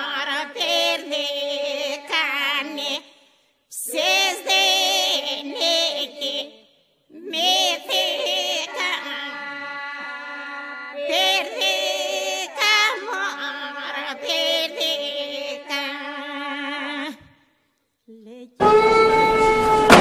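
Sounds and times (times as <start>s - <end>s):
women singing a cappella: 0.0s - 20.0s.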